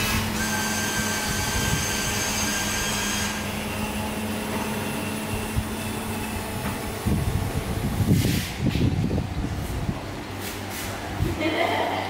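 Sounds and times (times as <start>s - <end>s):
high machine whine: 0.0s - 10.7s
vending machine hum: 0.0s - 12.0s.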